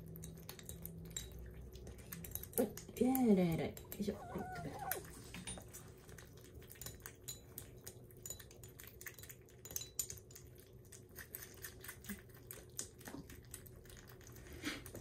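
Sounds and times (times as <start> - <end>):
kittens lapping food: 0.0 - 15.0.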